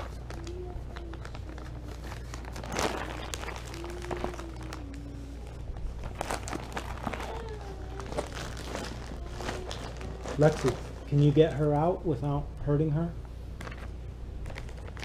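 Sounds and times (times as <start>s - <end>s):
plastic bags crinkling: 0.0s - 11.8s, 13.6s - 15.0s.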